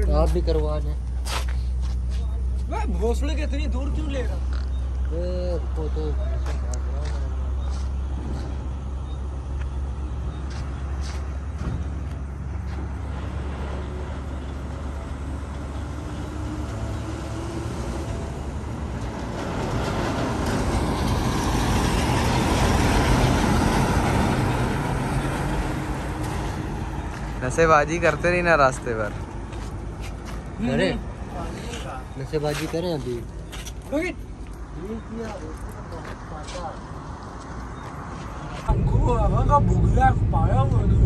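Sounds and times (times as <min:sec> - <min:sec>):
motor vehicle low rumble: 0:00.0 - 0:41.0.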